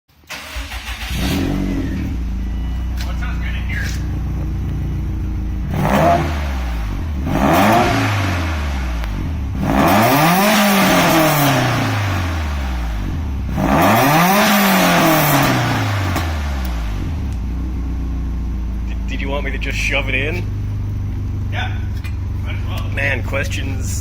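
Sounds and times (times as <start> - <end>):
car engine idling and revving: 0.3 - 24.0.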